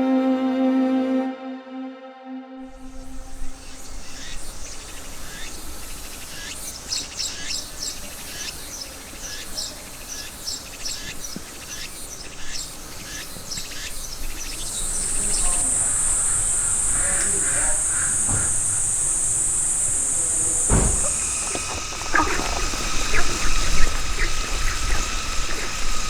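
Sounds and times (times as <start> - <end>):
high insect buzz: 2.7 - 26.0
outdoor background hiss: 2.7 - 26.0
small birds chirping: 2.8 - 26.0.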